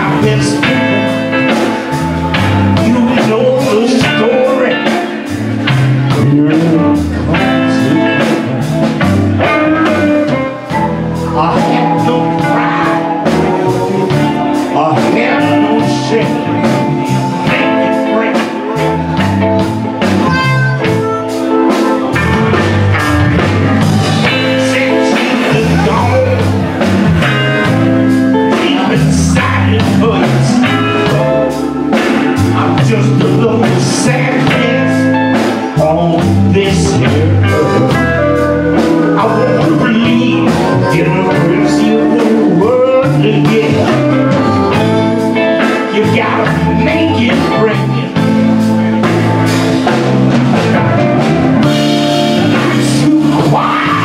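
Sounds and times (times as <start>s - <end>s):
live blues band playing: 0.0s - 54.0s
man singing: 0.0s - 54.0s.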